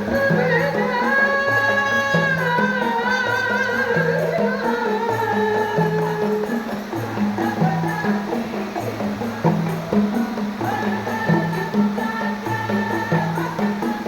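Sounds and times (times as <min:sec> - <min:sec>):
frame drums beating a rhythm: 0:00.0 - 0:14.0
person singing long held notes: 0:00.0 - 0:14.0.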